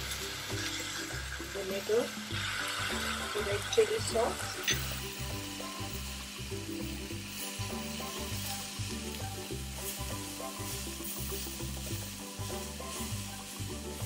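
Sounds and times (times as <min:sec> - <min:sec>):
noodles sizzling in a pan: 0:00.0 - 0:14.0
music with low beat: 0:02.3 - 0:14.0.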